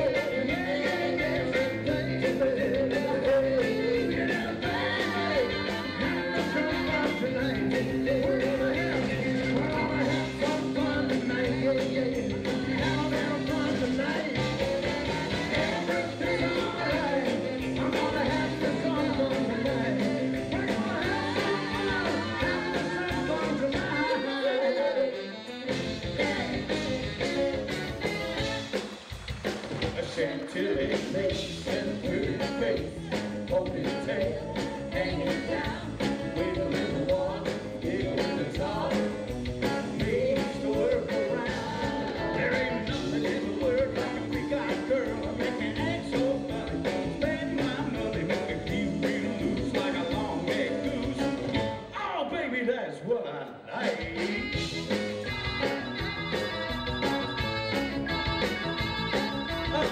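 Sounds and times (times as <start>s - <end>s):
steady drum beat: 0.0s - 24.1s, 25.8s - 51.8s, 53.8s - 59.9s
man singing: 0.0s - 27.6s, 29.8s - 59.9s
live rock and roll band: 0.0s - 59.9s.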